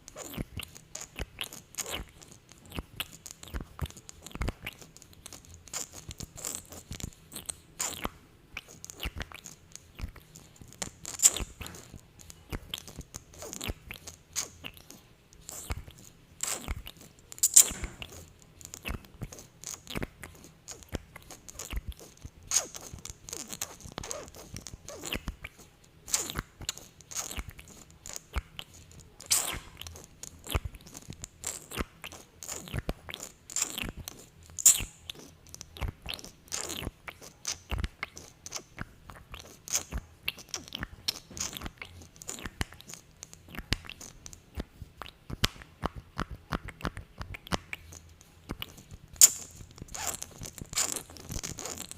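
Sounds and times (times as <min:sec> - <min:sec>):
sticky lip clicks and smacks: 0:00.0 - 0:51.9.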